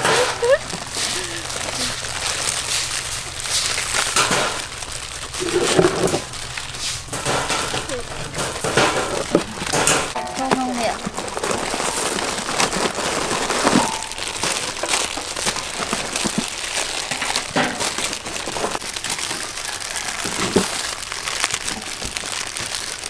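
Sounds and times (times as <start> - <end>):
plastic packets crinkling: 0.0 - 23.0.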